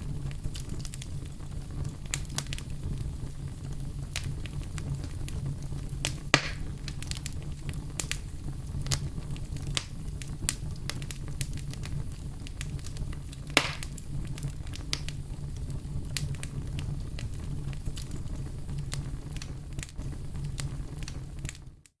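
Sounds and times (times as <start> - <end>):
low fire rumble: 0.0 - 21.9
fire crackling and popping: 0.0 - 22.0.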